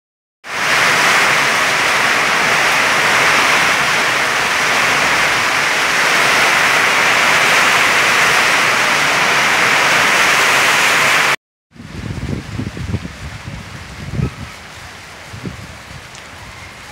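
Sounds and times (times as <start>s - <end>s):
heavy rain and hail: 0.4s - 16.9s.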